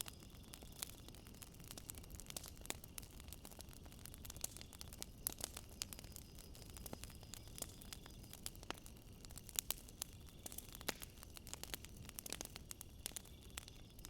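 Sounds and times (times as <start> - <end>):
crickets chirring: 0.0 - 14.0
wood fire crackling and popping: 0.0 - 14.0.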